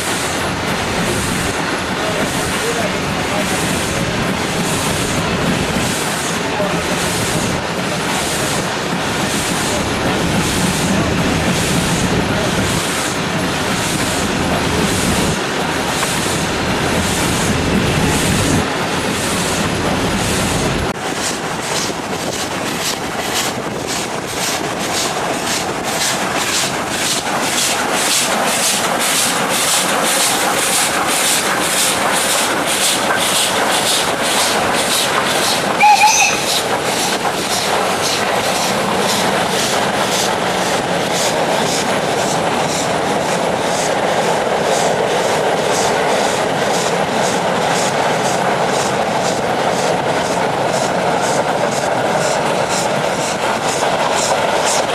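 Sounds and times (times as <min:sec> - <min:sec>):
steam locomotive chuffing: 0:00.0 - 0:54.9.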